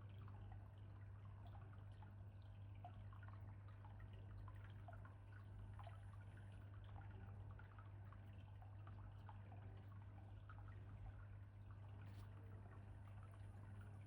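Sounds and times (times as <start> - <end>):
water trickling and dripping: 0.0 - 14.0.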